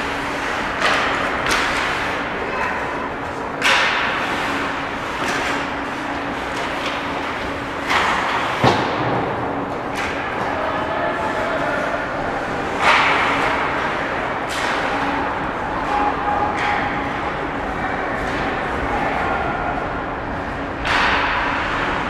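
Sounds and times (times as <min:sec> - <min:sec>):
hockey sticks and puck clacking: 0:00.0 - 0:19.2, 0:20.8 - 0:22.0.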